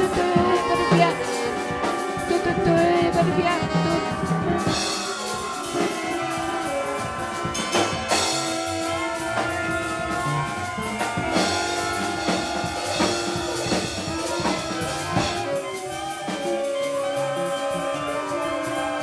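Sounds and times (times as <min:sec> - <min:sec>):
upright bass: 0:00.0 - 0:15.5
drum kit: 0:00.0 - 0:19.0
flutes: 0:00.0 - 0:19.0
saxophones: 0:00.0 - 0:19.0
trombone: 0:00.0 - 0:19.0
trumpets: 0:00.0 - 0:19.0.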